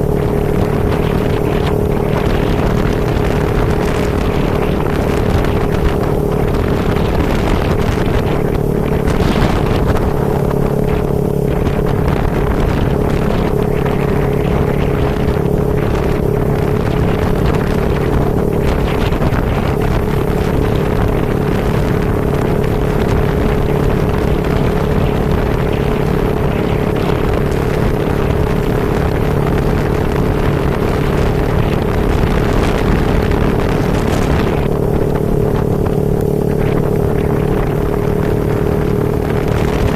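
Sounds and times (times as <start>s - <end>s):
vehicle engine humming: 0.0s - 39.9s
wind rushing over microphone: 0.0s - 39.9s.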